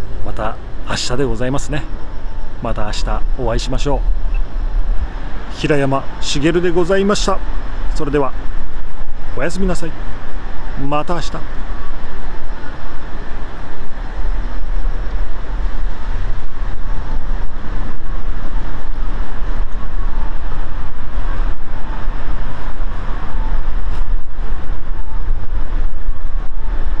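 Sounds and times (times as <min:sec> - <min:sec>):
loud low rumbling noise: 0:00.0 - 0:27.0.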